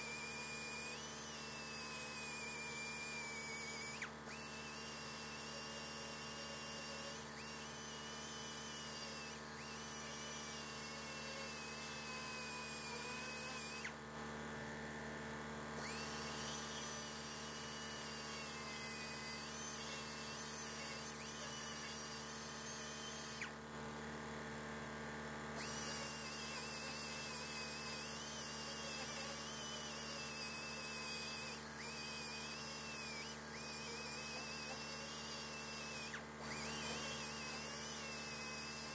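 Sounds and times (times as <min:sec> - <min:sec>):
grinder whining on metal: 0:00.0 - 0:14.1, 0:15.7 - 0:23.7, 0:25.5 - 0:38.9.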